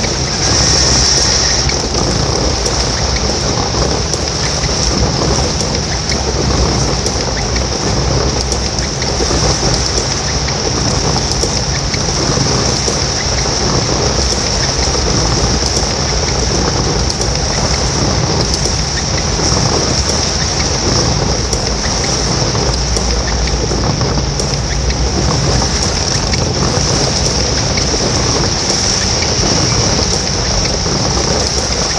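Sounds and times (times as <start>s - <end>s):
heavy rain hissing: 0.0s - 31.9s
low rumble: 0.0s - 31.9s
rain drop ticks: 0.0s - 31.9s.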